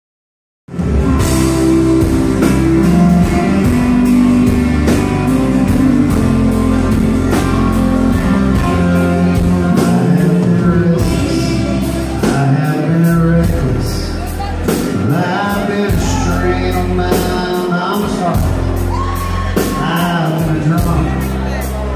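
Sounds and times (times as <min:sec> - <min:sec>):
country-rock band playing: 0:00.7 - 0:21.9.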